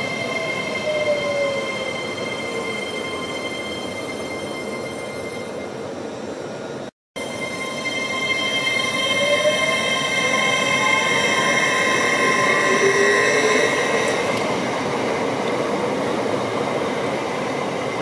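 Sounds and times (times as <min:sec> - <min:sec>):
electric train high whine: 0:00.0 - 0:18.0
wheels rumbling on rail: 0:00.0 - 0:18.0.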